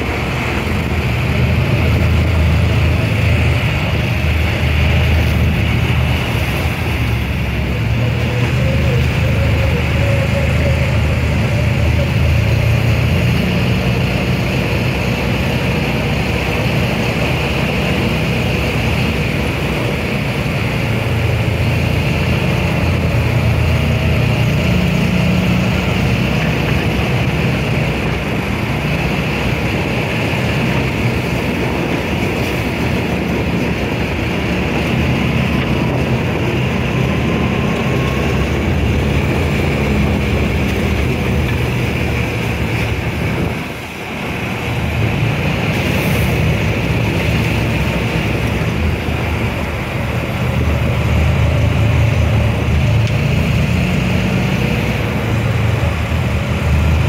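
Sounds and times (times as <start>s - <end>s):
off-road vehicle engine drone: 0.0s - 57.0s.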